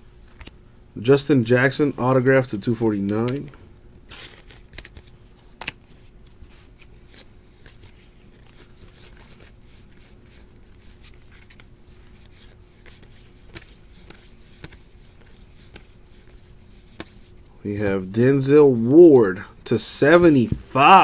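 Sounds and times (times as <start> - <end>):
trading cards rustling: 2.4 - 3.5, 4.1 - 21.0.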